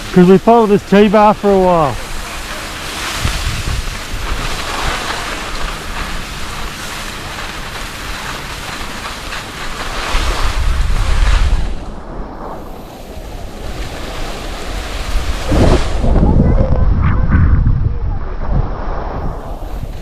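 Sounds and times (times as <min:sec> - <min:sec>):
skis sliding over wet snow: 0:00.0 - 0:16.1
wind buffeting microphone: 0:01.6 - 0:08.8, 0:09.7 - 0:20.0.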